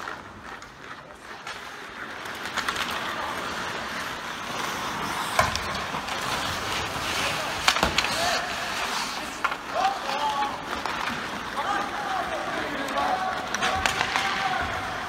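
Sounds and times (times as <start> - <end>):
hockey sticks and puck cracks: 0.0 - 15.0
skates scraping on ice: 0.0 - 15.0.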